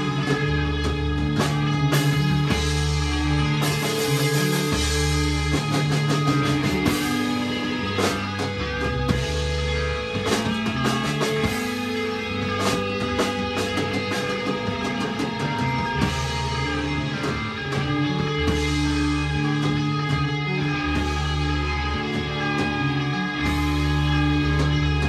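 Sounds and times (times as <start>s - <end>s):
electric guitar: 0.0s - 25.0s
low bass notes: 0.0s - 25.0s.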